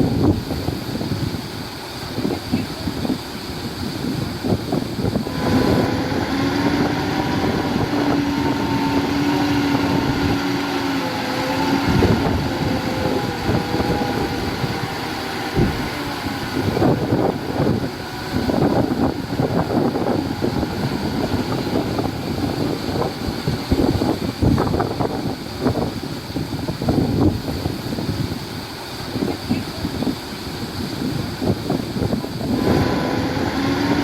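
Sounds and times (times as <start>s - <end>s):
heavy machinery diesel engine: 0.0s - 34.0s
wind buffeting microphone: 0.0s - 34.0s.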